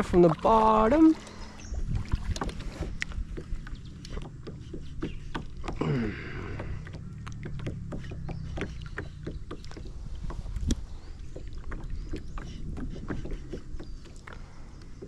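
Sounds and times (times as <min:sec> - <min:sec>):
low steady rumble: 0:00.0 - 0:12.6
water splashing against kayak hull: 0:00.0 - 0:15.0.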